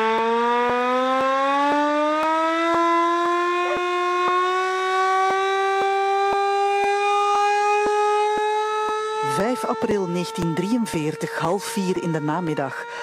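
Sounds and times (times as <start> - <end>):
hand-cranked siren wailing: 0.0 - 13.0.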